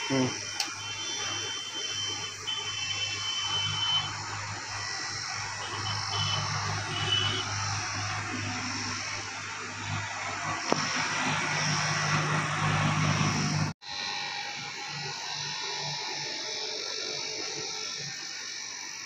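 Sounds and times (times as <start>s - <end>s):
compressor hum: 0.0s - 19.0s.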